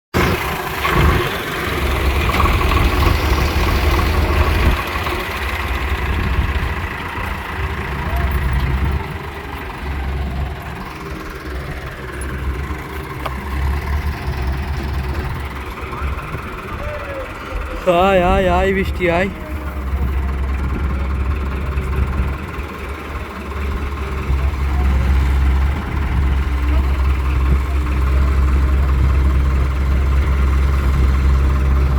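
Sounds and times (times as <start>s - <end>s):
diesel engine running at low revs: 0.2s - 31.9s.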